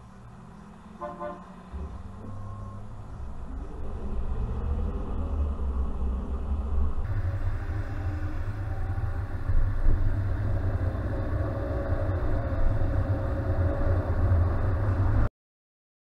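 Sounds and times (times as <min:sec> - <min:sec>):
car engine and road noise: 0:00.0 - 0:15.3.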